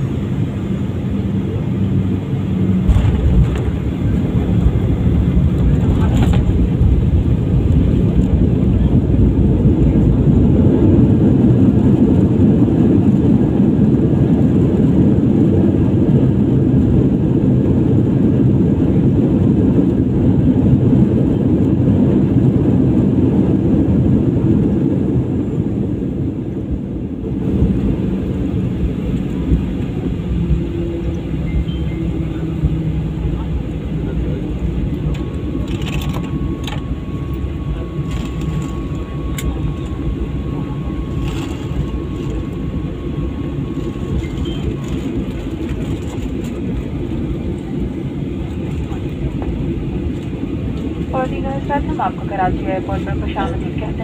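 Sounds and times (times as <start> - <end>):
jet engines roaring: 0.0 - 54.0
runway rumble: 0.0 - 54.0.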